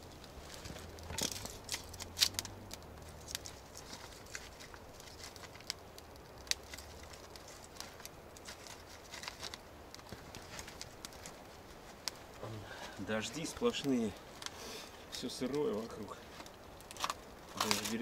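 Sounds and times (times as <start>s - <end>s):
dry sticks crackling and snapping: 0.0s - 18.0s.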